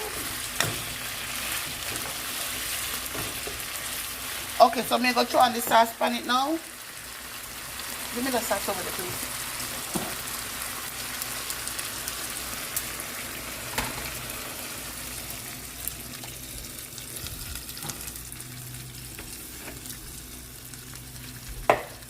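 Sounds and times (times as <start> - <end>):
chicken sizzling in a pan: 0.0 - 22.0.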